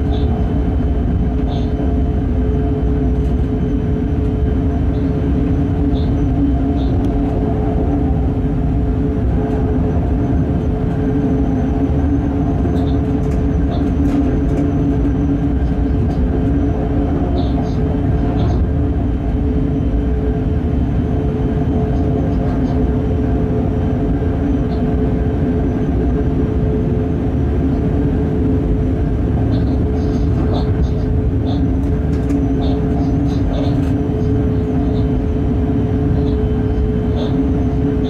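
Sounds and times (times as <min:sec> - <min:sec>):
traction equipment hum: 0:00.0 - 0:38.0
wheels rumbling on rails: 0:00.0 - 0:38.0.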